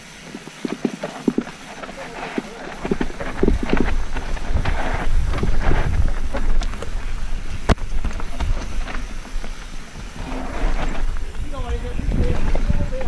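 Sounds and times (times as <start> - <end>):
bike tyres rumbling on dirt: 0.0 - 13.0
bike jolting: 0.1 - 13.0
wind buffeting microphone: 0.3 - 13.0.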